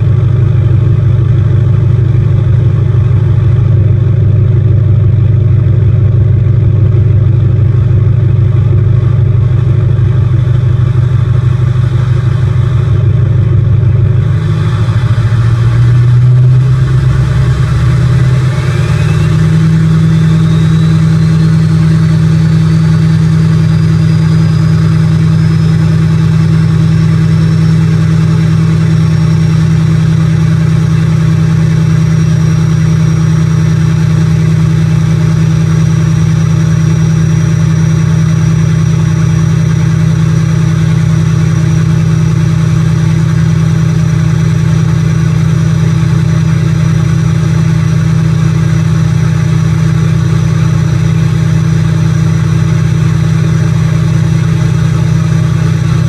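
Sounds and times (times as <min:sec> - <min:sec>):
diesel engine idling with whine: 0:00.0 - 0:56.0.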